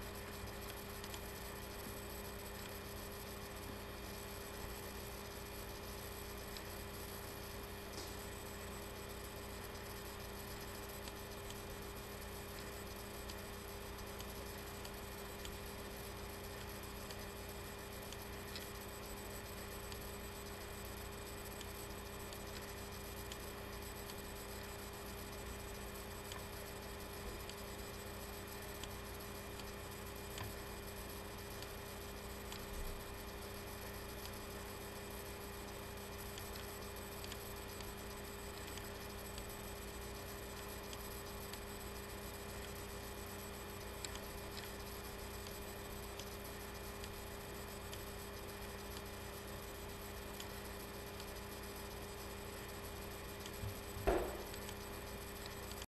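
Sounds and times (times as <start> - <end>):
electrical hum: 0.0 - 55.9.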